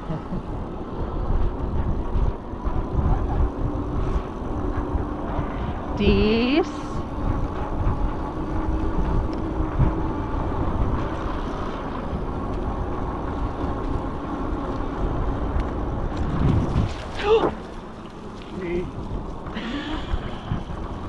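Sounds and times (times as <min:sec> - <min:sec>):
wind rush on microphone: 0:00.0 - 0:21.0.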